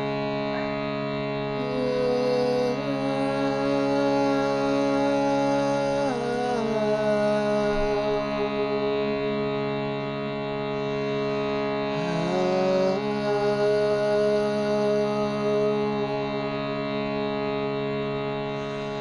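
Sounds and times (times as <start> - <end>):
meditative overtone drone: 0.0 - 19.0.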